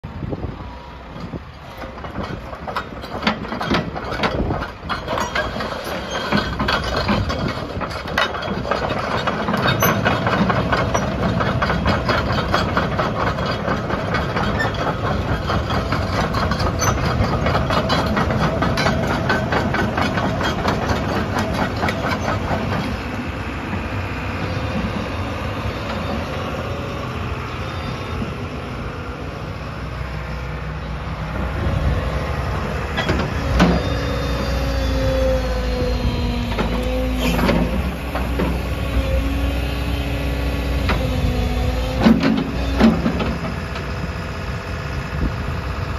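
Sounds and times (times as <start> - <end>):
excavator engine running: 0.1 - 45.9.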